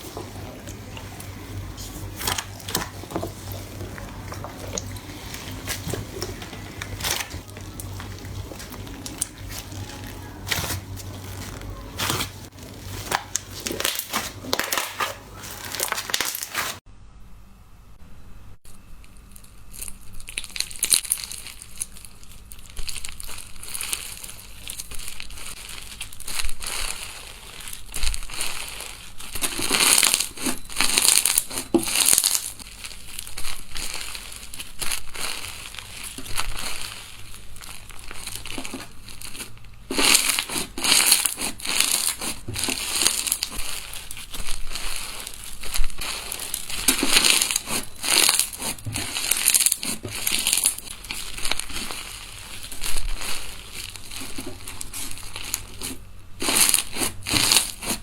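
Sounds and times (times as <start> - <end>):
hands squeezing crackling slime: 0.0 - 16.8, 19.3 - 58.0.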